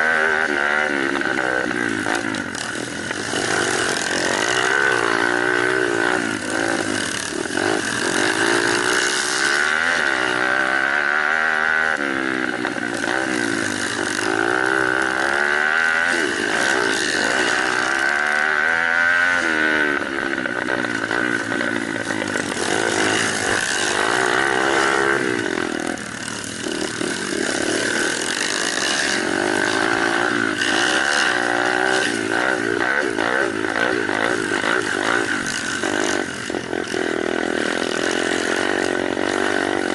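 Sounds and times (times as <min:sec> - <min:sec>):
mini motorcycle engines revving: 0:00.0 - 0:39.9.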